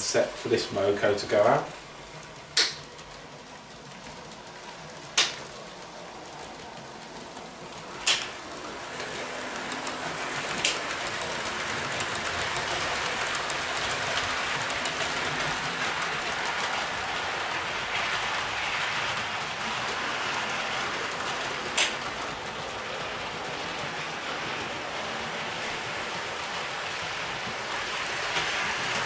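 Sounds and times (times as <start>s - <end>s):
light ticking over rails: 0.0s - 29.0s
model train wheels and motors: 0.0s - 29.0s.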